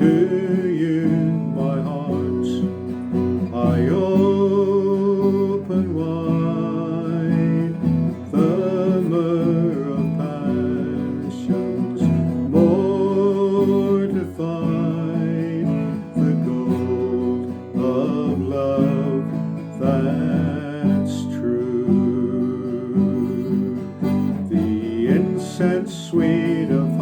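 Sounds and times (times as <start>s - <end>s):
person singing a hymn with vibrato: 0.0s - 27.0s
strummed acoustic guitar: 0.0s - 27.0s.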